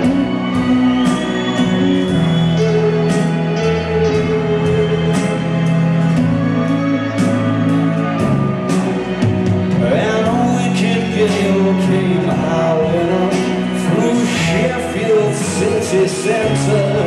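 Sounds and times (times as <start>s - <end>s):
bass guitar: 0.0s - 17.0s
drums: 0.0s - 17.0s.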